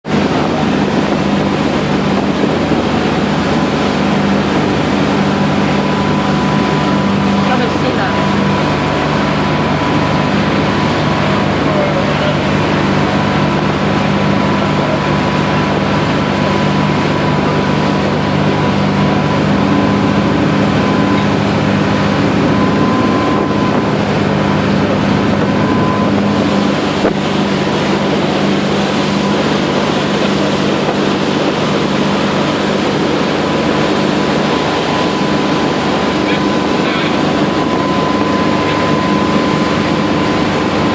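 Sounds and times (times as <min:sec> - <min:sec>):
boat engine drone: 0:00.0 - 0:40.9.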